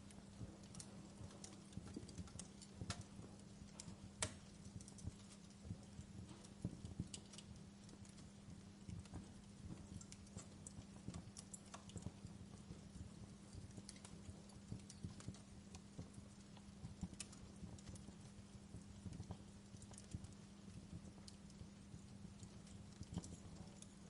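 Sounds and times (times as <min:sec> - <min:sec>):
low steady hum: 0:00.0 - 0:24.0
wood fire crackling: 0:00.0 - 0:24.0.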